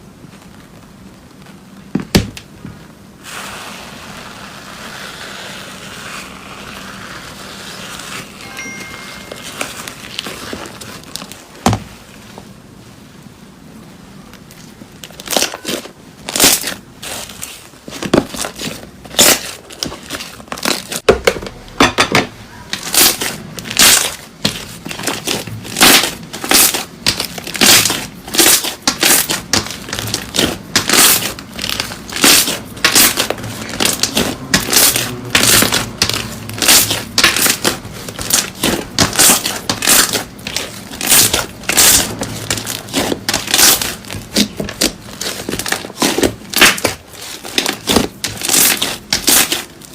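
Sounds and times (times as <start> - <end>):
slime crunching and crackling: 3.2 - 11.9, 14.2 - 21.1, 22.7 - 49.9.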